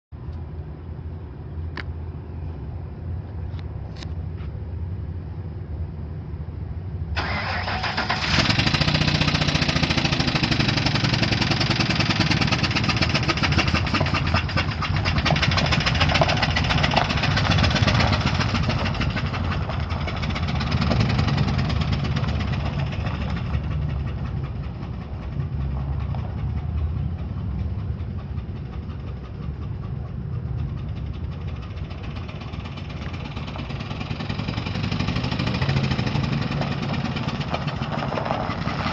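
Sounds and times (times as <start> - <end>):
engine idling harshly: 7.2 - 38.9.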